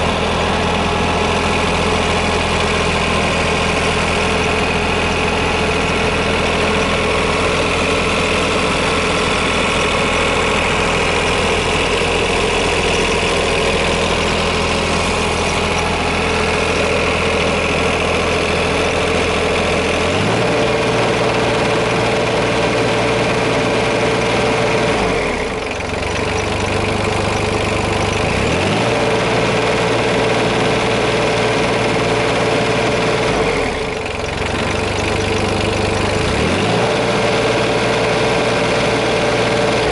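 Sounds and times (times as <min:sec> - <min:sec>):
excavator diesel engine idling: 0:00.0 - 0:39.9.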